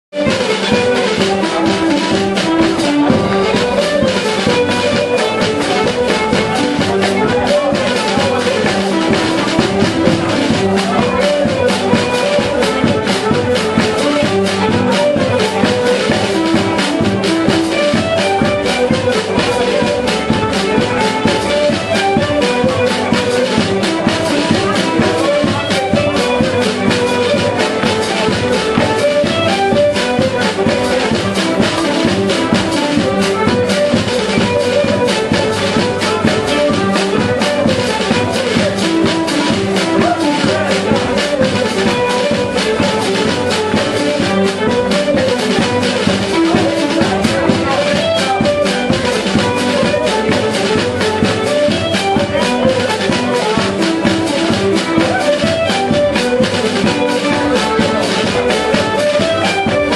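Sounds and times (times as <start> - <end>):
folk dance music: 0.0 - 59.9
drum beat: 0.1 - 59.9.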